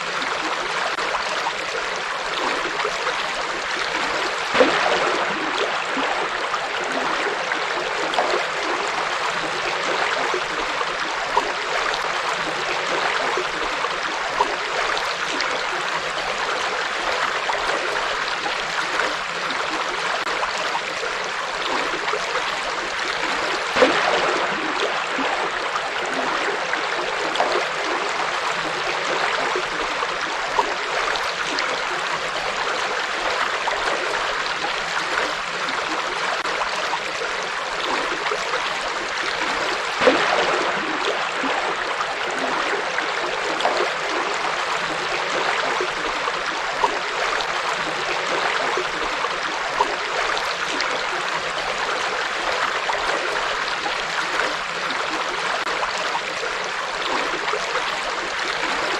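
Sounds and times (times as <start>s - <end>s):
river water flowing over stones: 0.0s - 58.9s.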